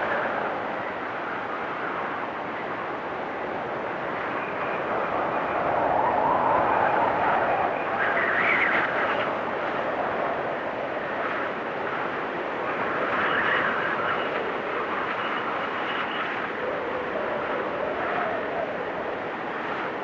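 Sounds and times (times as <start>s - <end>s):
blizzard wind howling in gusts: 0.0s - 20.0s.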